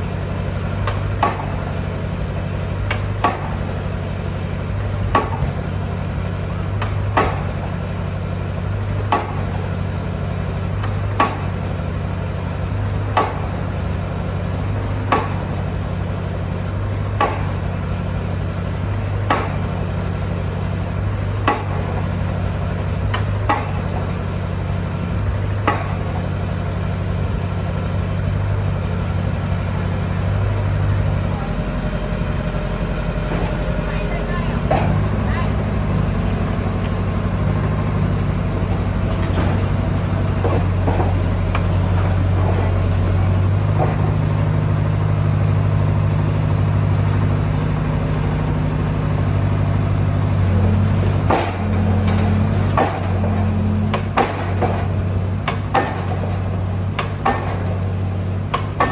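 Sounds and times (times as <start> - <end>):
excavator engine running: 0.0 - 58.9.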